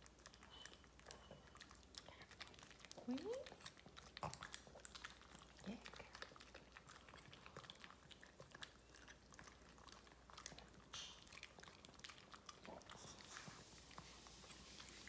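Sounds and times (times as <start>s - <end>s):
dogs licking food off a spoon: 0.0s - 15.0s
dogs smacking lips: 0.0s - 15.0s.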